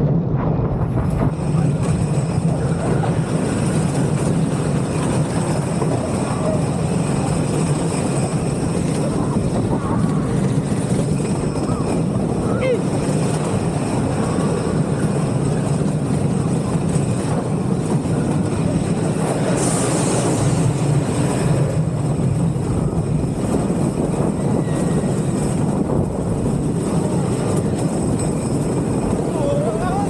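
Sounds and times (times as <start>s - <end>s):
roller coaster rumbling on wooden track: 0.0s - 30.0s
rushing air: 0.0s - 30.0s.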